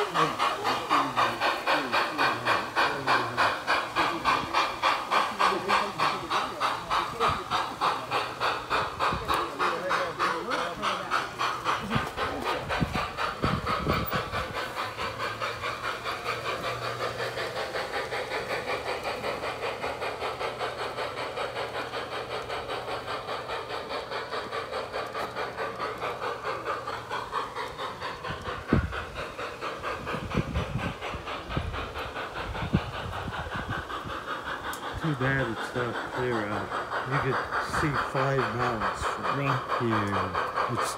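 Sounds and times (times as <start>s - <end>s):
model train running on track: 0.0s - 40.9s.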